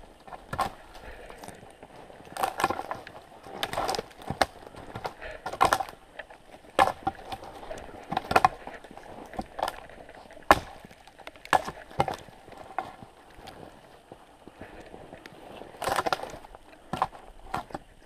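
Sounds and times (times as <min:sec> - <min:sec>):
sharp woody cracks and knocks: 0:00.2 - 0:01.6, 0:02.2 - 0:13.6, 0:15.7 - 0:17.8.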